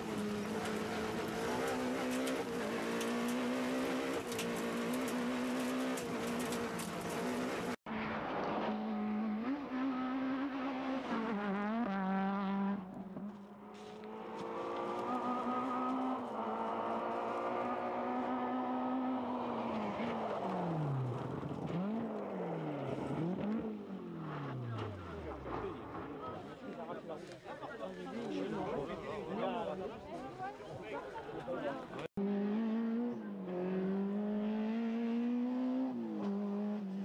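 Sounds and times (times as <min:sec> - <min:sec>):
rally car engine at hard throttle: 0:00.0 - 0:26.3, 0:32.2 - 0:37.0.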